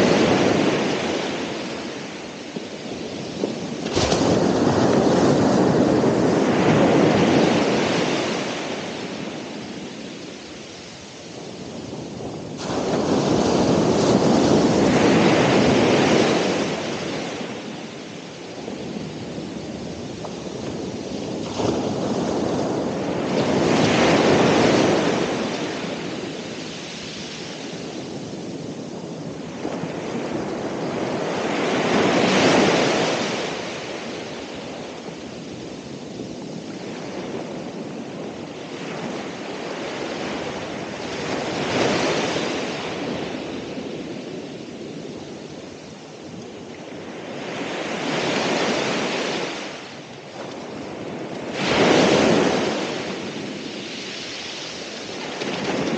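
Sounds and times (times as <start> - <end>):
ocean waves crashing on shore: 0.0 - 55.9
wind on microphone: 0.0 - 55.9.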